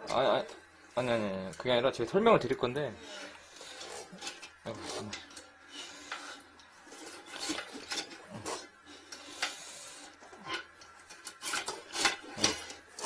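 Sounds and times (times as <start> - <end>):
drain cable scraping toilet bowl: 0.0 - 13.0.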